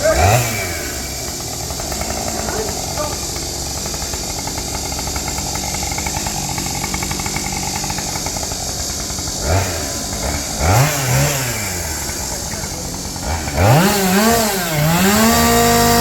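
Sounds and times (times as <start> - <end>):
chainsaw engine idling and revving: 0.0 - 16.0.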